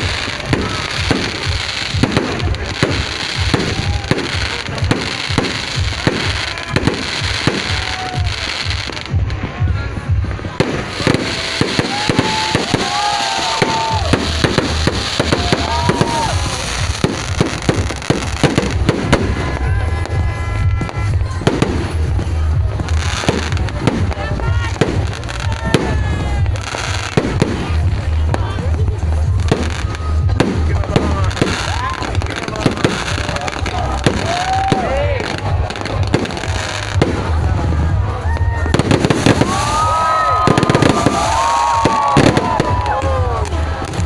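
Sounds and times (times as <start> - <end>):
fireworks bangs: 0.0 - 44.0
fireworks crackling rumble: 0.0 - 44.0.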